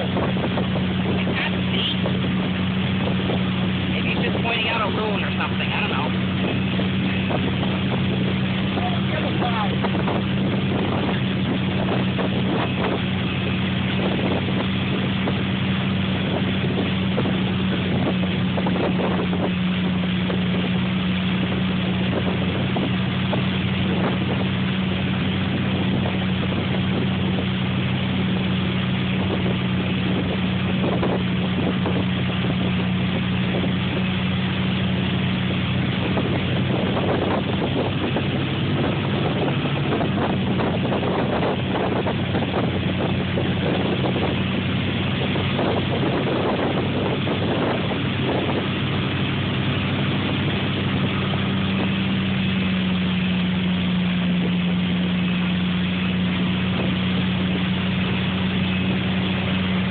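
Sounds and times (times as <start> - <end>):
churning wake rushing: 0.0 - 59.9
motorboat engine humming: 0.0 - 59.9
wind: 0.0 - 59.9.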